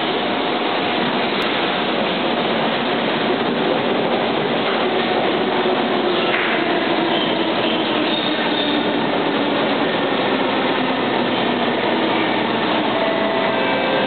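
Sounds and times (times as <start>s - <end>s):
stationary metro train noise: 0.0s - 14.0s.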